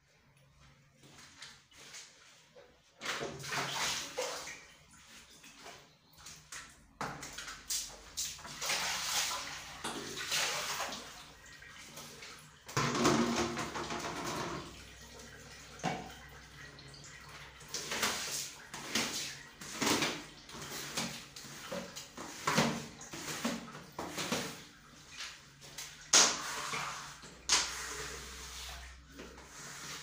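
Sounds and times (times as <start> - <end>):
water splashing in plastic basin: 2.8 - 30.0.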